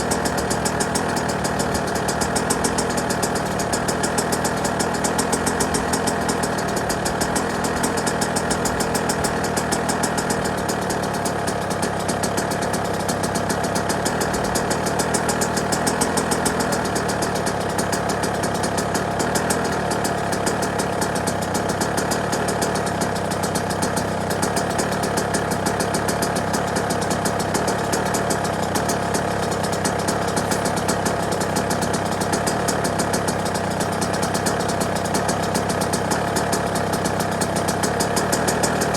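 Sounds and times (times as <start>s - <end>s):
dirt bike engine idling: 0.0s - 38.9s.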